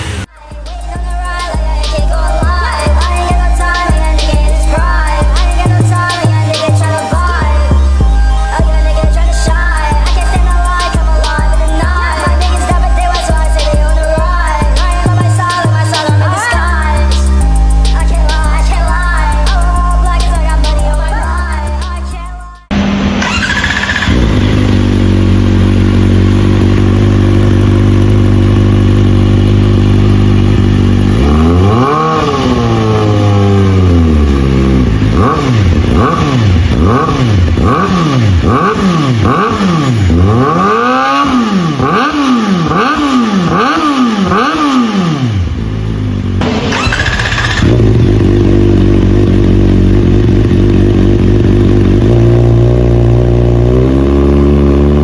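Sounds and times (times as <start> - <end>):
motorcycle engine idling: 0.0 - 55.0
motorcycle engine revving: 0.0 - 55.0.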